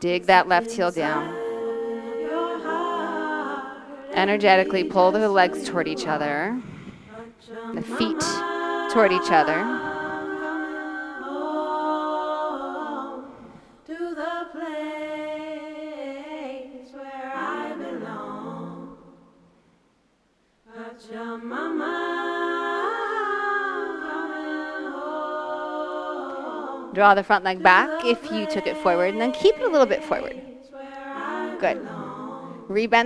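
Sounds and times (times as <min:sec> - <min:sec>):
choir-like voices singing: 0:00.0 - 0:19.6, 0:20.6 - 0:33.0.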